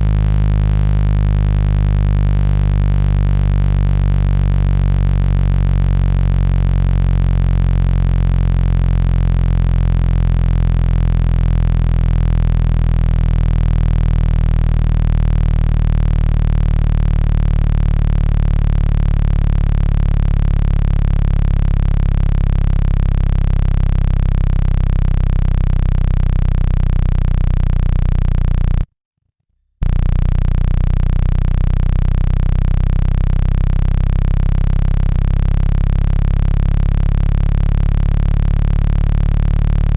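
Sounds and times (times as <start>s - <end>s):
deep electronic tone: 0.0s - 28.9s, 29.8s - 39.9s.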